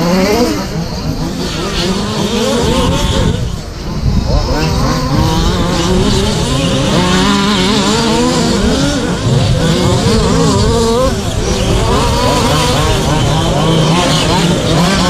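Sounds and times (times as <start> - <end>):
rc truck motors whining: 0.0 - 15.0
wind rumbling on microphone: 0.0 - 15.0.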